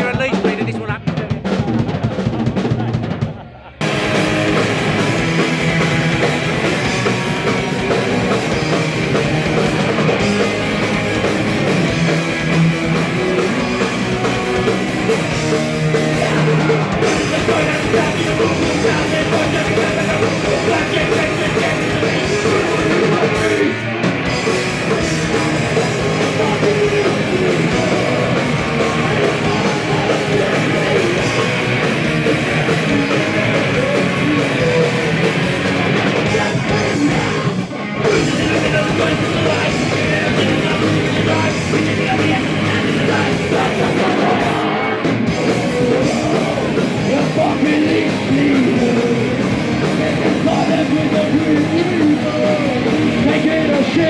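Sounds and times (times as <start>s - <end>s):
distorted guitars: 0.0s - 54.0s
drums: 0.0s - 54.0s
shouted vocals: 4.0s - 54.0s.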